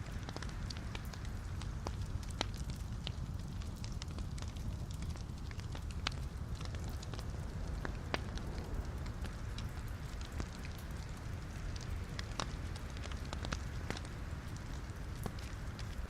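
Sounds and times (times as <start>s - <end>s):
fire crackling and popping: 0.0s - 16.0s
fire flame rumble: 0.0s - 16.0s.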